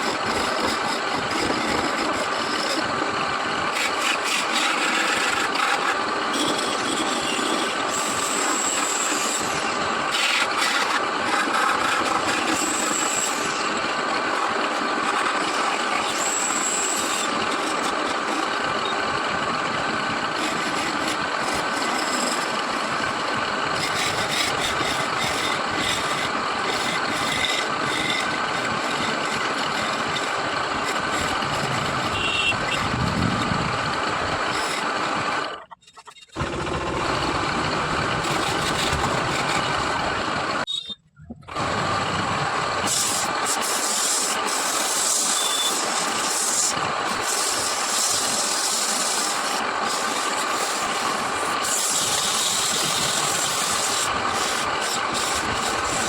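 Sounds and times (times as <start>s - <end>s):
turning tool rasping wood: 0.0s - 40.7s, 42.8s - 56.0s
wood lathe running: 0.0s - 40.7s, 41.5s - 56.0s.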